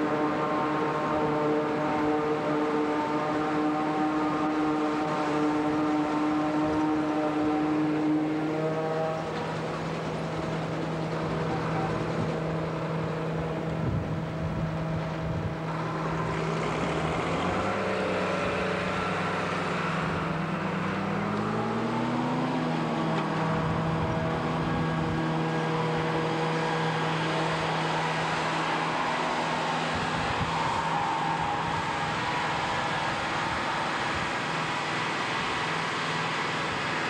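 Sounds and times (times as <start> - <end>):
diesel engines running: 0.0 - 37.0.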